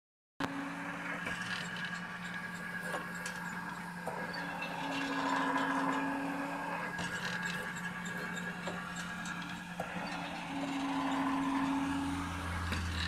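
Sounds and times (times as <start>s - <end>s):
pump machine humming: 0.4s - 13.0s
steel rods scraping and clanking: 0.5s - 13.0s.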